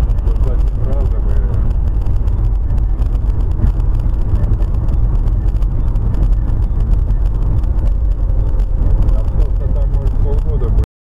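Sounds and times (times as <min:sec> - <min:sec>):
car engine rumble: 0:00.0 - 0:10.9.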